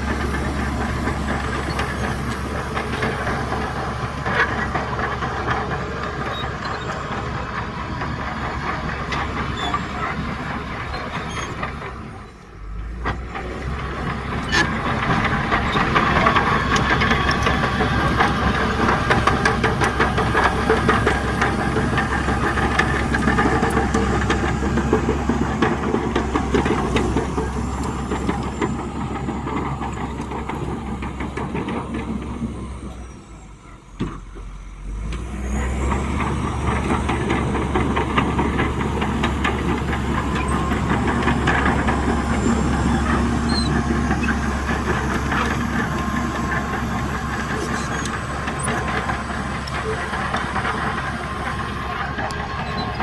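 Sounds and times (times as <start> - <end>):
heavy diesel engine under load: 0.0 - 53.0
machinery clatter: 0.0 - 53.0.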